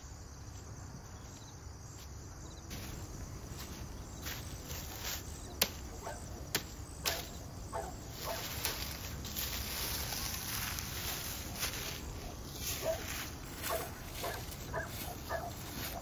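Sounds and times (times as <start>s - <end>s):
crickets buzzing: 0.0s - 16.0s.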